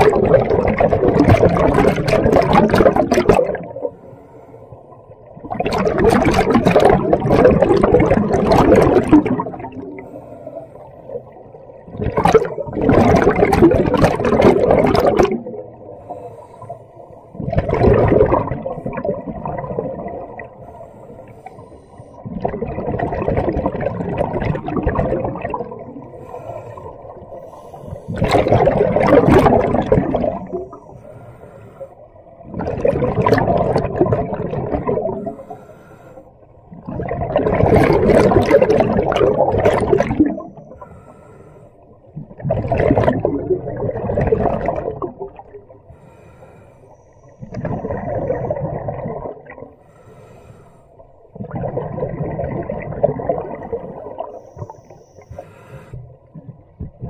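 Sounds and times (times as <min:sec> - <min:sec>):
scuba exhaled bubbles rushing: 0:00.0 - 0:04.0, 0:05.0 - 0:10.2, 0:11.0 - 0:16.2, 0:17.3 - 0:20.7, 0:22.2 - 0:31.0, 0:32.3 - 0:35.6, 0:36.6 - 0:40.9, 0:42.0 - 0:45.8, 0:47.2 - 0:49.8, 0:51.3 - 0:57.0.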